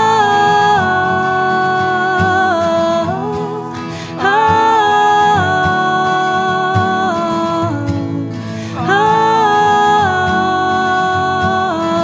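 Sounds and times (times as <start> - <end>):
man and woman singing: 0.0 - 12.0
strummed acoustic guitars: 0.0 - 12.0.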